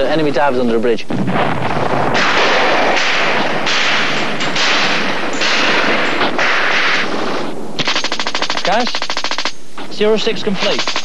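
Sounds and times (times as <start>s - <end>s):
gunfire bursts: 1.2s - 9.6s, 10.5s - 11.0s.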